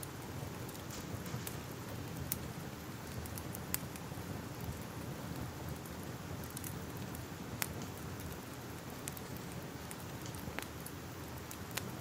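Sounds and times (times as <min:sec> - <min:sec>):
fire crackles: 0:00.0 - 0:12.0
fire rumbling and hissing: 0:00.0 - 0:12.0.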